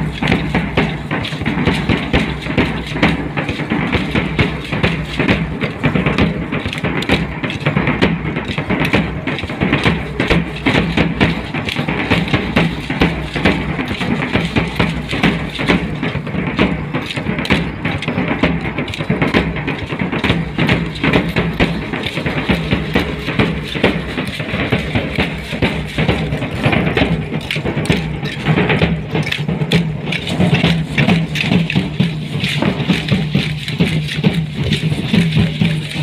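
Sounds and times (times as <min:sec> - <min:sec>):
bass drum: 0:00.0 - 0:36.0
cymbals: 0:00.0 - 0:36.0.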